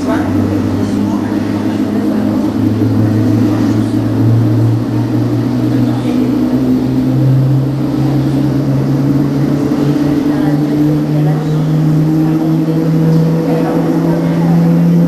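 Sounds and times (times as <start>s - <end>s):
jet engine spooling up: 0.0s - 15.0s.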